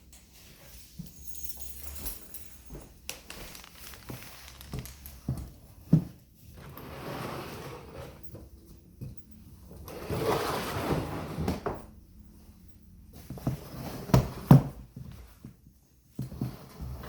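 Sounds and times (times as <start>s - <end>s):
rustling and scraping: 0.2s - 17.0s.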